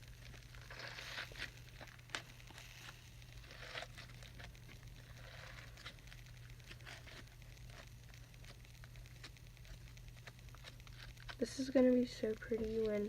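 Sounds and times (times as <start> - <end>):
steady low hum: 0.0 - 13.0
slime squelching: 0.2 - 13.0.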